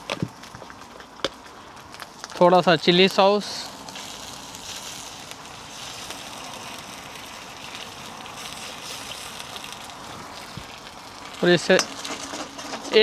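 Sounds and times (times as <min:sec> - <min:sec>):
sauce sizzling in a hot pan: 0:01.5 - 0:13.0.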